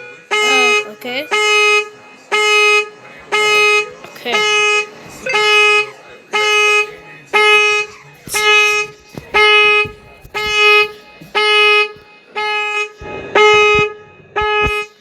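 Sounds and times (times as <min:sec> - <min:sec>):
car horn honking: 0:00.0 - 0:15.0.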